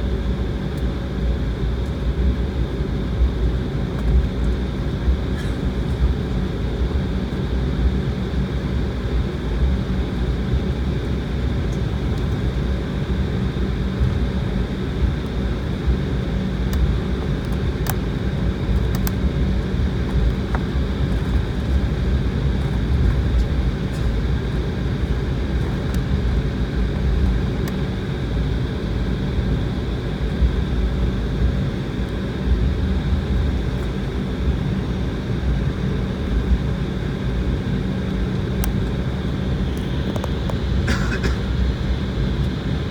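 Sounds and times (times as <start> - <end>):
jet engine roar in cabin: 0.0 - 42.9.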